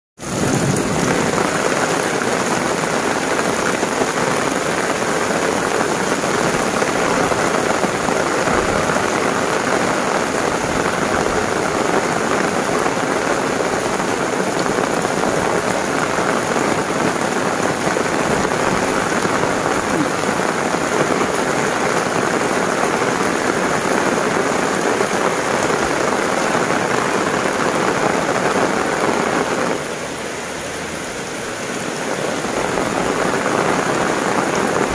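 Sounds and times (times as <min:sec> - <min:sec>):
heavy rain on pavement: 0:00.2 - 0:34.9
running water: 0:00.2 - 0:34.9.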